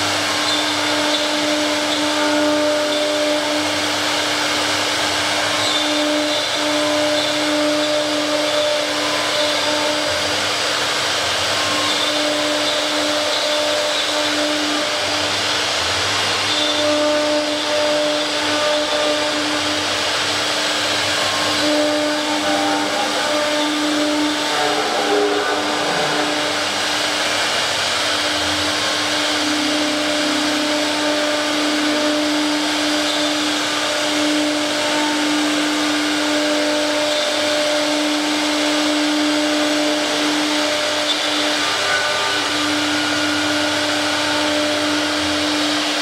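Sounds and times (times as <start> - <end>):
cnc router whine and rushing: 0.0 - 46.0.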